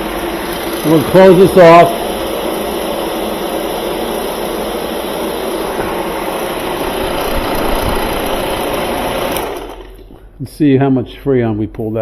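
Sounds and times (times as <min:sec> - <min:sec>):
refrigerant recovery machine running: 0:00.0 - 0:10.4.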